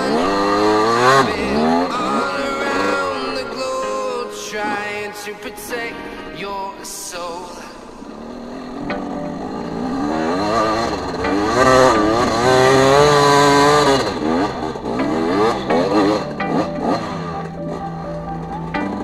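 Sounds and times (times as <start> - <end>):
dirt bike engine revving: 0.0 - 4.9, 7.4 - 19.0.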